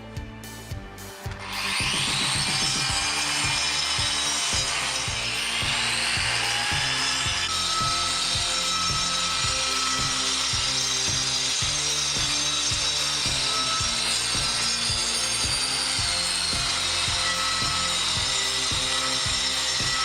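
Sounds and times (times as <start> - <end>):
background music with beat: 0.0 - 20.0
angle grinder running: 1.2 - 20.0.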